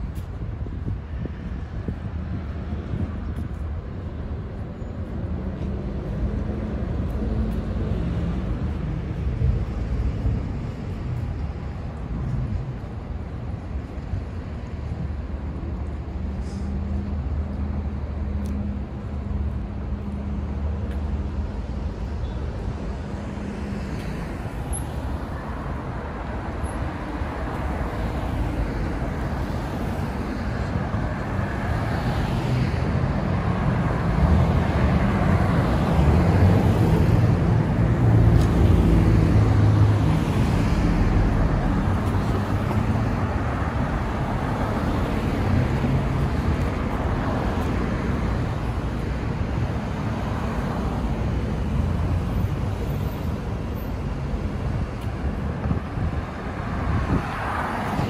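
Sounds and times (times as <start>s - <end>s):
cars driving past: 0.0s - 58.0s.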